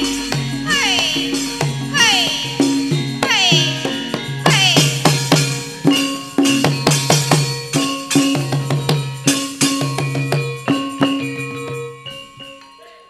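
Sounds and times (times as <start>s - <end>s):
bronze gongs and metallophones: 0.0s - 13.0s.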